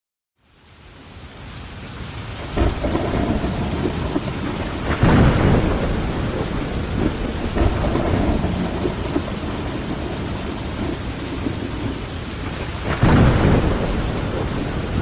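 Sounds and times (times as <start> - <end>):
rain pattering on window glass: 0.6 - 15.0
thunder clap: 2.4 - 15.0
thunder rumbling: 2.4 - 15.0.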